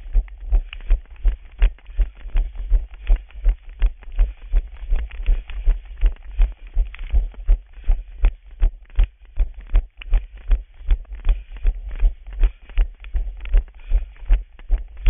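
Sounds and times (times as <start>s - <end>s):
running footsteps on pavement: 0.0s - 15.0s.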